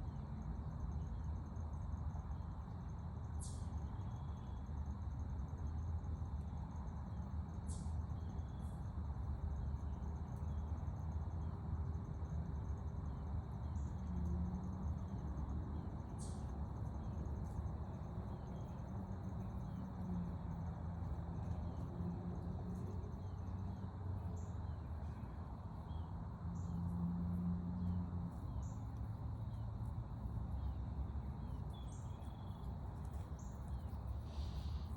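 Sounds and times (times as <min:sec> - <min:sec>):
insects trilling: 0:03.2 - 0:34.9.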